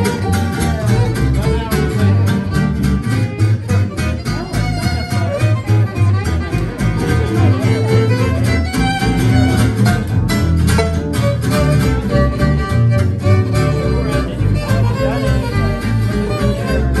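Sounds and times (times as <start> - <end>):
acoustic guitars strumming: 0.0 - 17.0
fiddle melody: 0.0 - 17.0.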